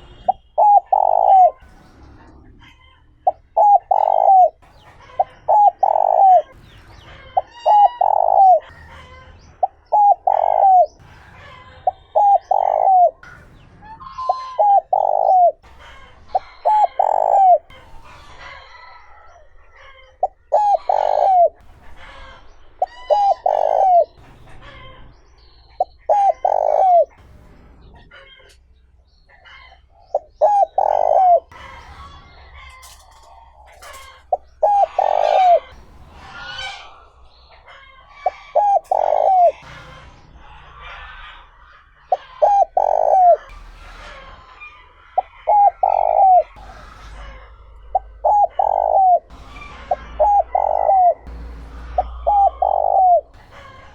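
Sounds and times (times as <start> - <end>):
dove cooing: 0.0 - 11.0, 11.8 - 13.4, 14.0 - 25.0, 25.7 - 27.2, 29.4 - 43.6, 44.4 - 53.9
small birds chirping: 0.0 - 43.6, 44.4 - 53.9.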